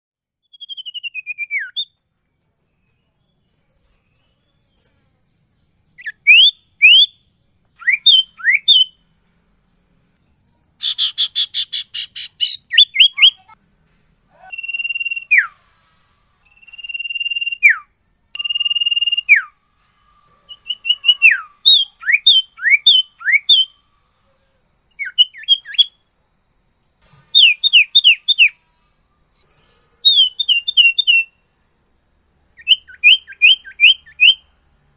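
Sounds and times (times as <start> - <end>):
songbird whistling song: 0.4 - 9.1, 10.1 - 13.6, 14.3 - 26.1, 27.0 - 31.5, 32.4 - 34.6
bird buzzy trill: 0.5 - 2.0, 2.6 - 26.1, 27.0 - 31.8, 32.4 - 34.9.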